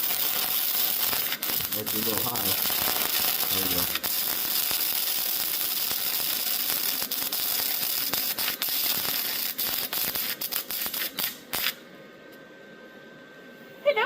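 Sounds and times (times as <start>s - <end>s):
welding arc crackling: 0.0s - 11.8s.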